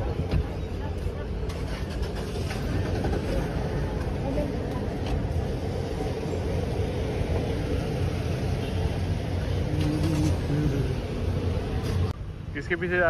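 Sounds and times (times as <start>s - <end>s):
faint voices: 0.0s - 12.2s
cars idling and passing: 0.0s - 13.0s.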